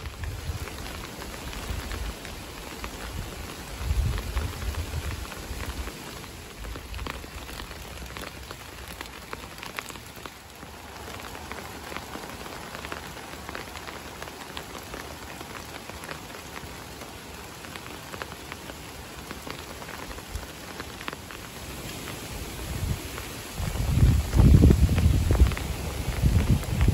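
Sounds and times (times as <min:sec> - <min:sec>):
raindrops ticking close by: 0:00.0 - 0:26.9
steady rain: 0:00.0 - 0:26.9.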